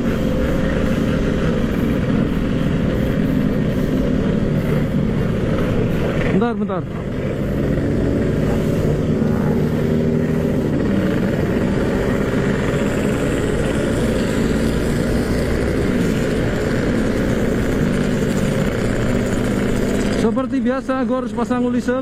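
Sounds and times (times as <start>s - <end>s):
two-stroke motorcycle engine running: 0.0s - 22.0s.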